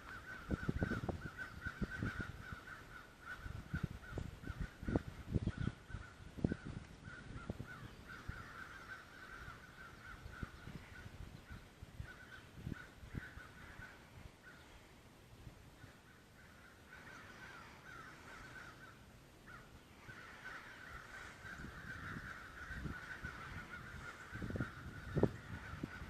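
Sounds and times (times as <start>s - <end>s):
crows cawing: 0.0s - 5.2s, 7.0s - 14.7s, 15.8s - 26.0s.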